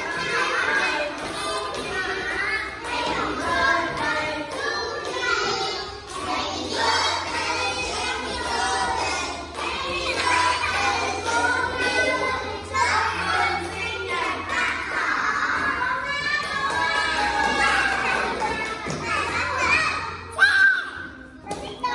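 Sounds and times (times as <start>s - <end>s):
children singing a birthday song: 0.0s - 21.9s.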